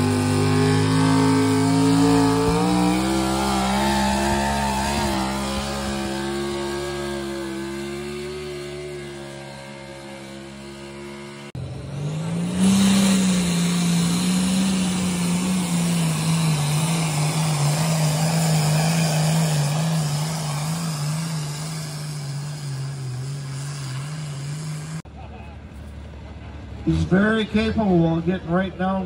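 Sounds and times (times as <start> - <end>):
tractor diesel engine at full throttle: 0.0 - 25.1.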